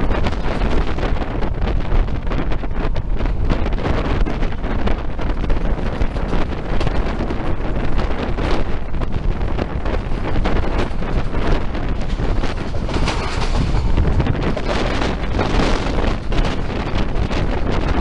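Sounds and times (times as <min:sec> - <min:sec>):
train running noise: 0:00.0 - 0:18.0
wind buffeting microphone: 0:00.0 - 0:18.0.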